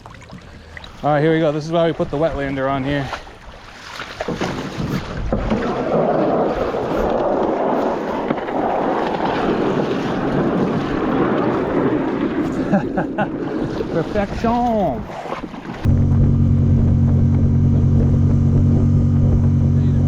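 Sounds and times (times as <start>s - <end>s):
water rushing around hull: 0.0s - 20.0s.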